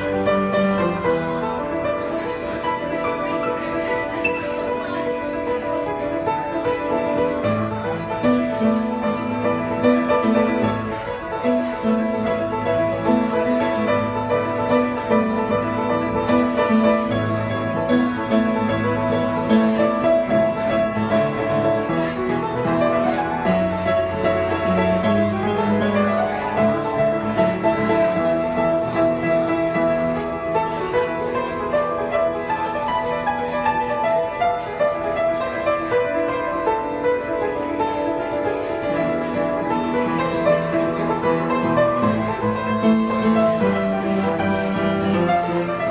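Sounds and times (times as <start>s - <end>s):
solo piano playing: 0.0s - 45.9s.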